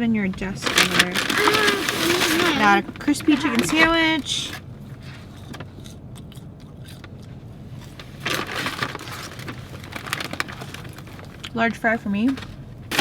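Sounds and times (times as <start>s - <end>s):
paper bag rustling: 0.2s - 5.8s, 7.8s - 13.0s.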